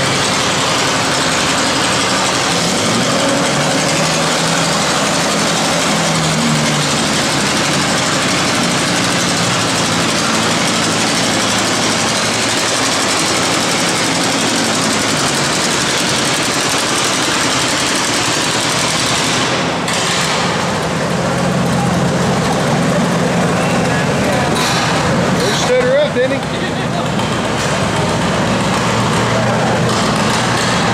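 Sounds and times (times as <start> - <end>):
tractor engine under load: 0.0 - 30.9.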